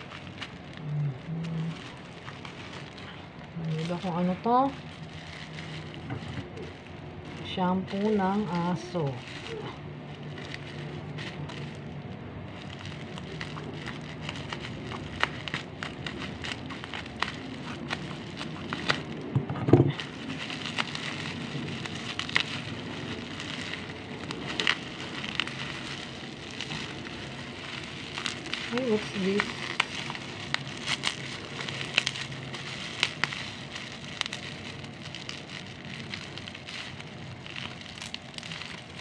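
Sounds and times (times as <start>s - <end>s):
bubble wrap crinkling: 0.0s - 39.0s.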